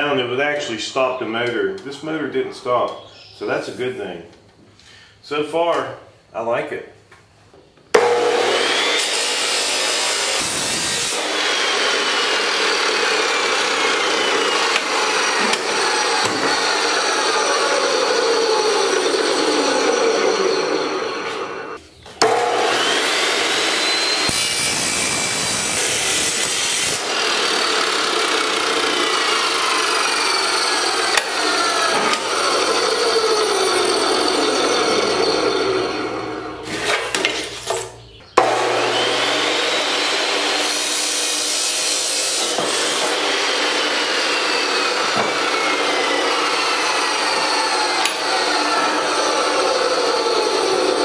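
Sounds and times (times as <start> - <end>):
chop saw cutting steel: 8.0 - 51.0.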